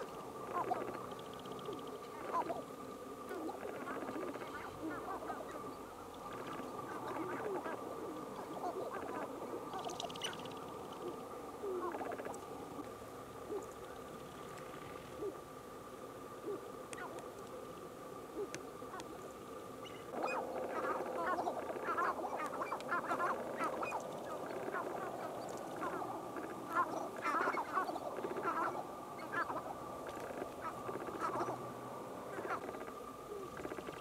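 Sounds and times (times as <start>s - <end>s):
grouse calling: 0.0s - 15.5s, 16.3s - 34.0s
chorus of short bird calls: 0.0s - 34.0s.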